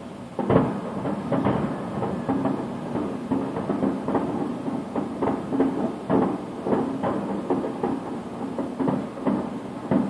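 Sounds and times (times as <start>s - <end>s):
firework shells booming: 0.3s - 10.0s.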